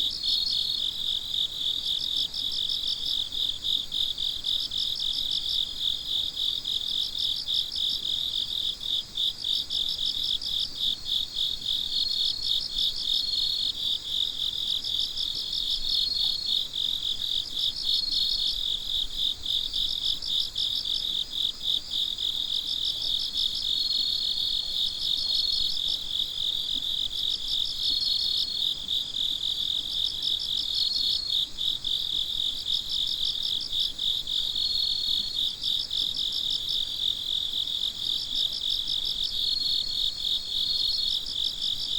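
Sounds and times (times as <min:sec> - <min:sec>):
crickets chirping rapidly: 0:00.0 - 0:41.9.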